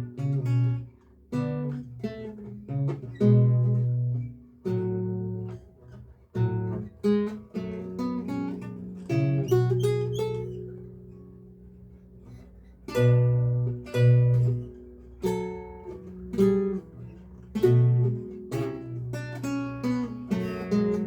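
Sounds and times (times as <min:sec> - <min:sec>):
solo lute playing: 0:00.0 - 0:21.0.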